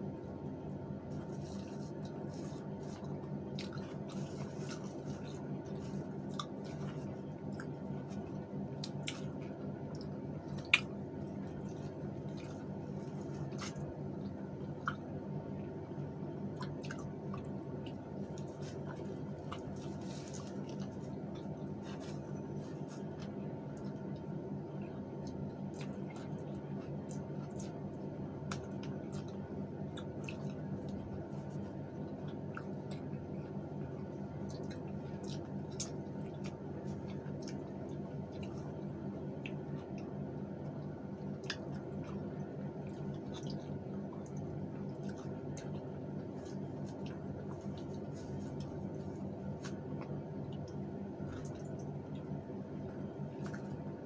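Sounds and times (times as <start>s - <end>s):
steady low hum: 0.0s - 54.0s
chewing and mouth smacks: 1.1s - 15.7s, 16.4s - 54.0s.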